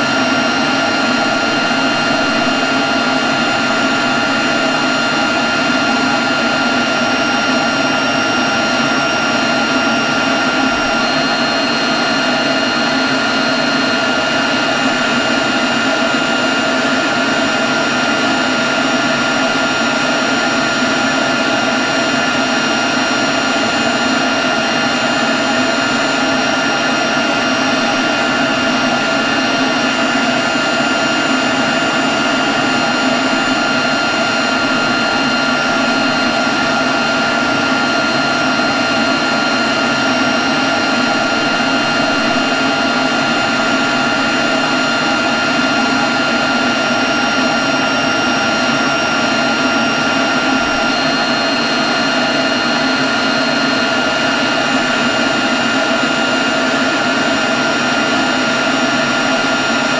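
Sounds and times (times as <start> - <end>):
leaf blower running: 0.0 - 59.9.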